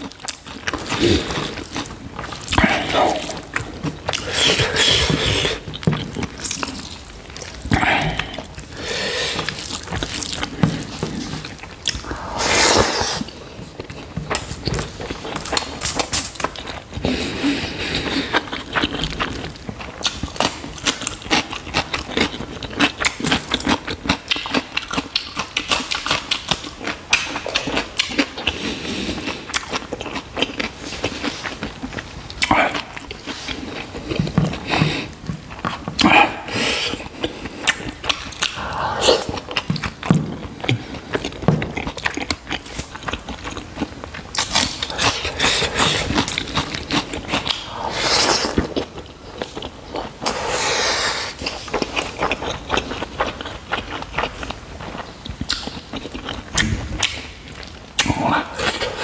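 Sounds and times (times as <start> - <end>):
man chewing with mouth smacks: 0.0 - 59.0.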